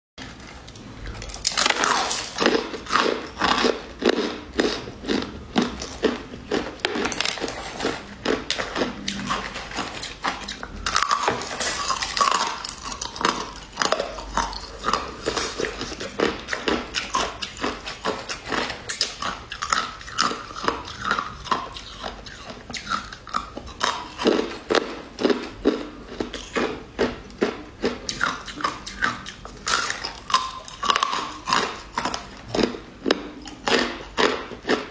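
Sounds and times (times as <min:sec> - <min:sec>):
chewing crushed ice: 0:00.2 - 0:34.9.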